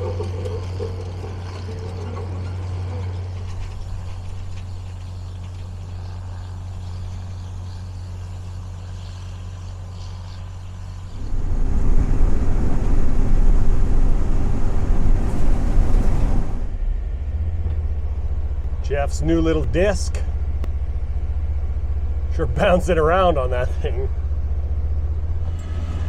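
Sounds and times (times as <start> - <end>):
rough rumble: 0.0 - 8.8, 10.5 - 26.0
vehicle engine drone: 0.0 - 26.0.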